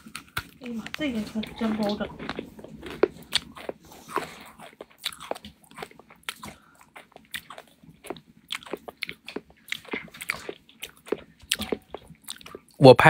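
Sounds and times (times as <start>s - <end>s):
person crunching crisp food: 1.4s - 12.7s.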